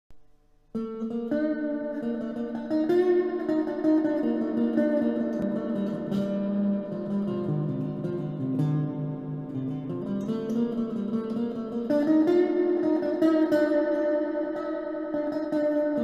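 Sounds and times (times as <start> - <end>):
ambient electric guitar: 0.7 - 16.0.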